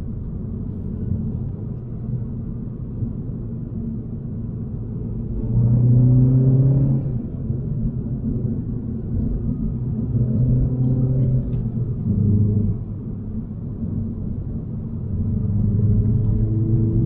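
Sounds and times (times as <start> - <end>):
car engine under throttle: 0.0 - 17.0
low road rumble: 0.0 - 17.0.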